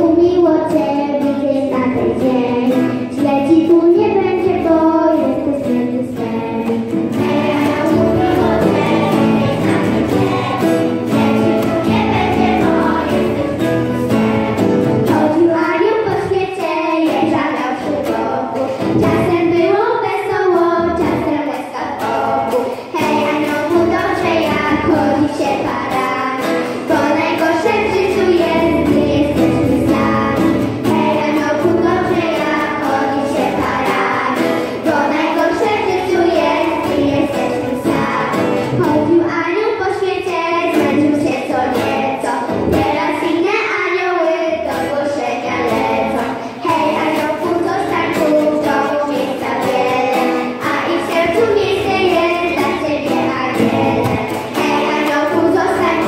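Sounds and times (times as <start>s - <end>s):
musical accompaniment: 0.0s - 19.7s, 20.5s - 39.5s, 40.2s - 43.5s, 44.2s - 56.0s
children's choir singing a carol: 0.0s - 56.0s.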